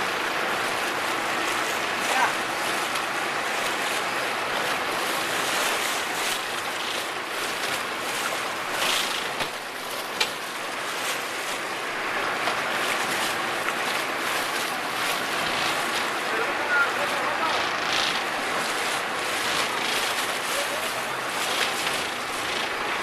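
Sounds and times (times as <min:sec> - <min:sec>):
wind and sea water rushing: 0:00.0 - 0:23.0.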